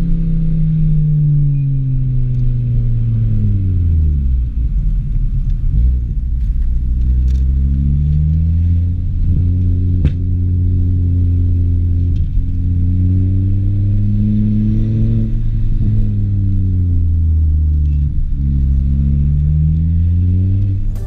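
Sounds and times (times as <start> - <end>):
car engine drone from cabin: 0.0 - 21.0.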